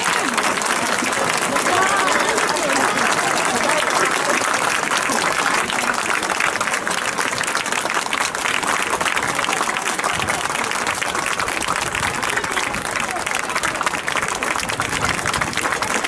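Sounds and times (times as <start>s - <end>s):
crowd applauding: 0.0s - 16.0s
spectators clapping close by: 0.0s - 16.0s.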